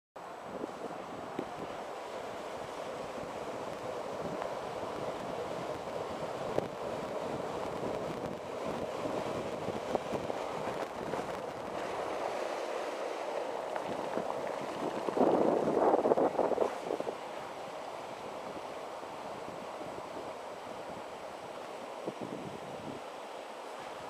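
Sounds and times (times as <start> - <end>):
wheels rolling on sand: 0.2 - 24.0
wind on microphone: 0.4 - 23.1.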